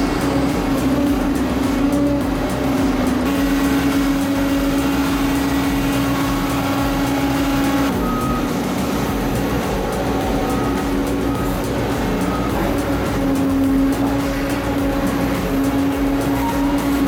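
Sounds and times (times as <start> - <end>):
heavy machine engine drone: 0.0 - 17.0.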